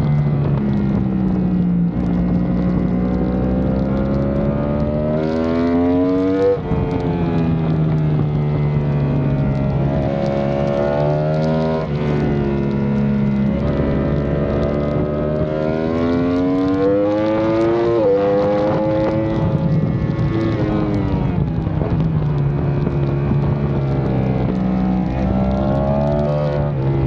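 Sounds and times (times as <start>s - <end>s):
motorcycle engine at racing revs: 0.0s - 27.0s.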